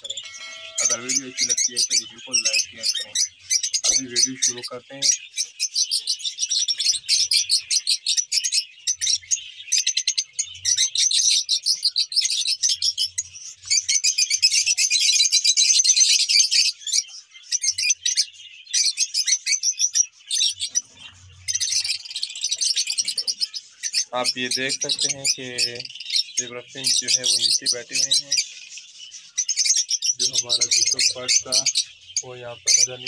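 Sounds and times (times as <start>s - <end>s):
lovebirds chattering: 0.0s - 33.0s.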